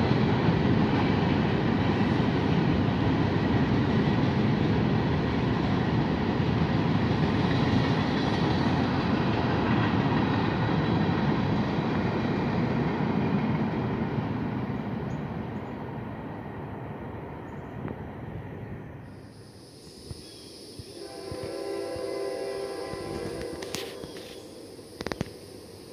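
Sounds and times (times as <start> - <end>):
freight train rumbling past: 0.0 - 25.9.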